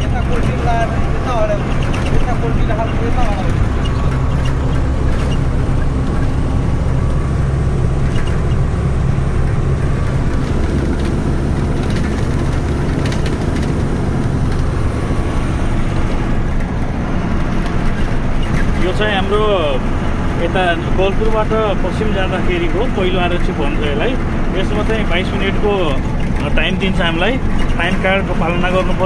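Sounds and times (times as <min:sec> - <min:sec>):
road noise: 0:00.0 - 0:29.0
truck diesel engine running: 0:00.0 - 0:29.0.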